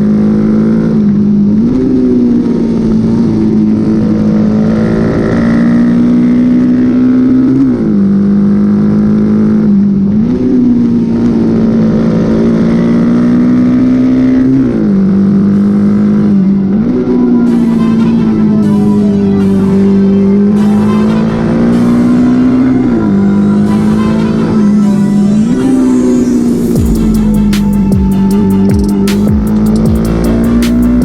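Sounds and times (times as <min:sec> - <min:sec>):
motorcycle engine running hard: 0:00.0 - 0:31.0.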